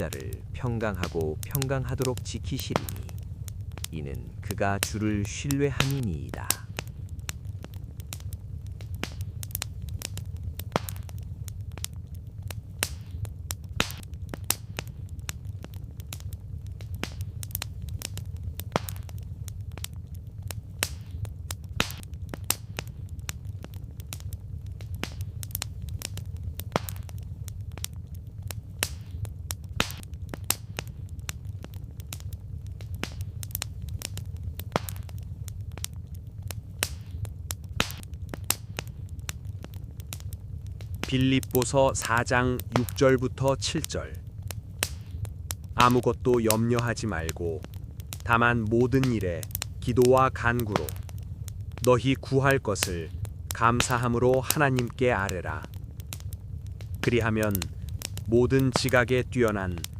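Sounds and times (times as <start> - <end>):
burning logs popping and snapping: 0.0 - 59.9
low rumble of flames: 0.0 - 59.9.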